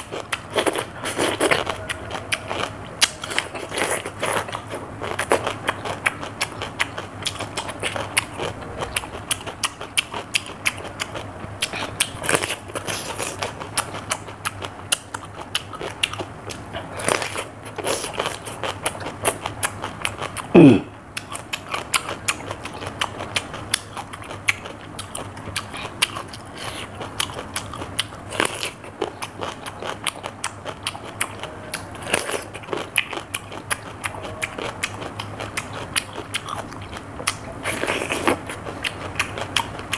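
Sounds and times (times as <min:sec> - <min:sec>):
cucumber crunching and chewing: 0:00.0 - 0:39.9.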